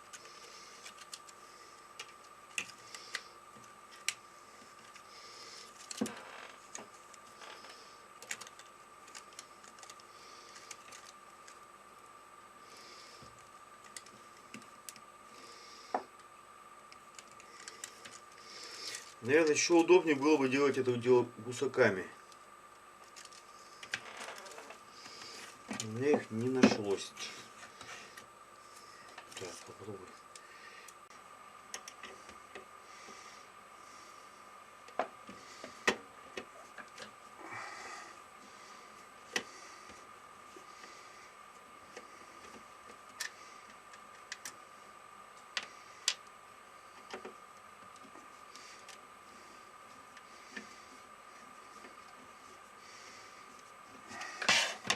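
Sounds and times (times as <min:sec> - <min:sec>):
faint high hum: 0:00.0 - 0:54.9
faint steady whine: 0:00.0 - 0:54.9.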